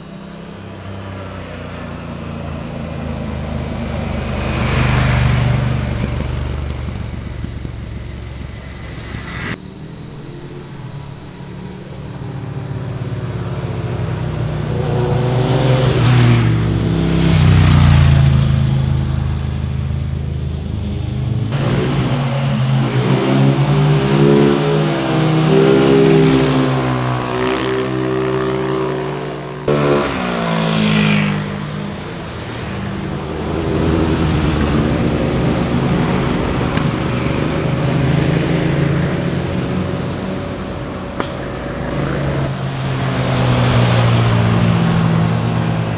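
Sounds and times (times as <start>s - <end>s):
motorcycles riding past revving: 0.0s - 45.9s.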